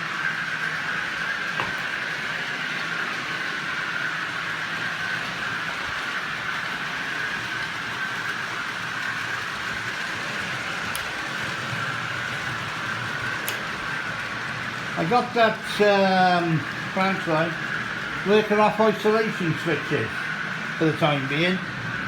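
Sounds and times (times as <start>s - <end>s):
model train whirring: 0.0s - 22.0s.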